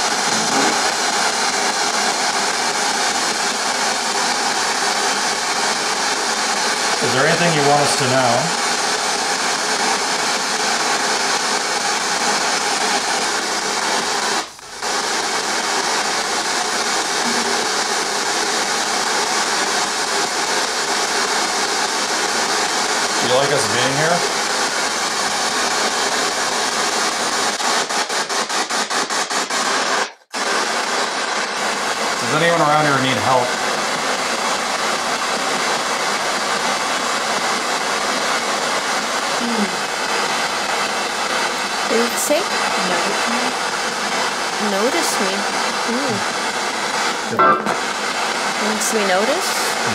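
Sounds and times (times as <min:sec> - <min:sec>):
radio static hiss: 0:00.0 - 0:49.9.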